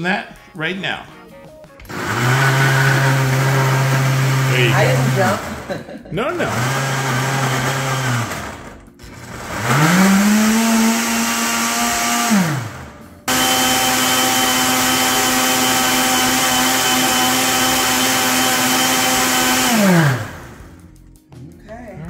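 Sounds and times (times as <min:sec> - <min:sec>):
blender motor running: 0:01.9 - 0:05.7, 0:06.3 - 0:20.8.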